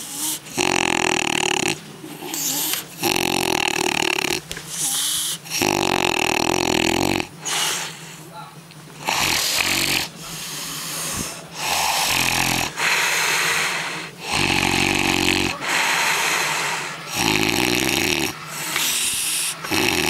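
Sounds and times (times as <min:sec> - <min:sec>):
man snoring loudly: 0:00.0 - 0:08.2, 0:09.0 - 0:20.0.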